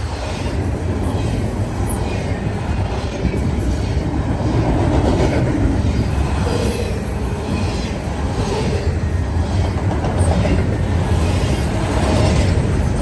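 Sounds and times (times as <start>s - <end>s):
freight train rumble and clatter: 0.0s - 13.0s.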